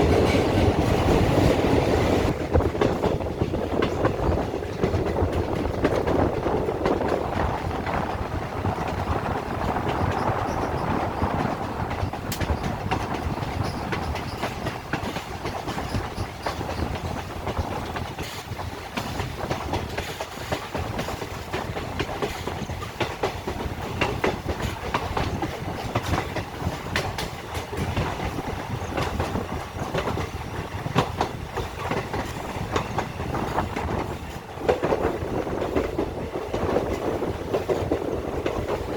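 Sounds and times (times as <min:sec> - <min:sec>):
train wheels rumbling on rails: 0:00.0 - 0:38.9
track clicks and clatter: 0:00.1 - 0:38.9.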